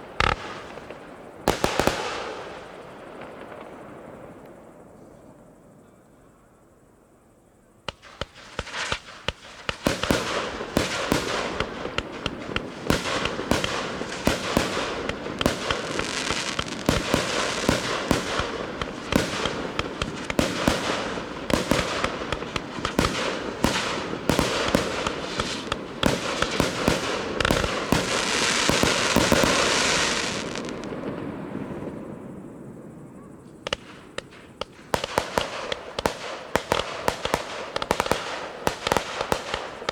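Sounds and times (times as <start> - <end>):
fireworks bangs and crackling: 0.0 - 4.9, 7.9 - 39.9.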